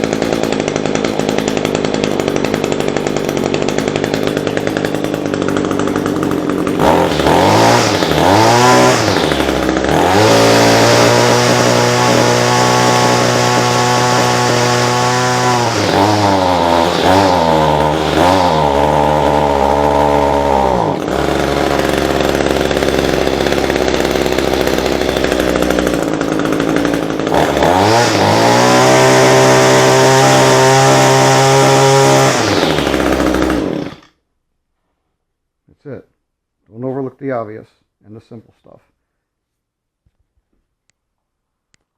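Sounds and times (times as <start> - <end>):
string trimmer engine revving: 0.0 - 34.1.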